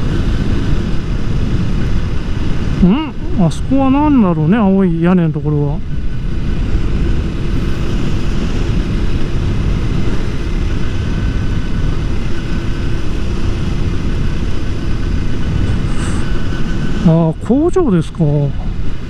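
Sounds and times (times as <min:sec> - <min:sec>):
motorcycle engine hum: 0:00.0 - 0:19.0
wind rushing over microphone: 0:00.0 - 0:19.0.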